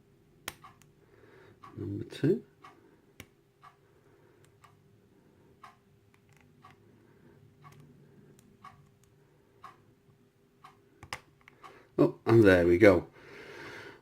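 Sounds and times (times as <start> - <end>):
clock ticking faintly: 0.4 - 12.6.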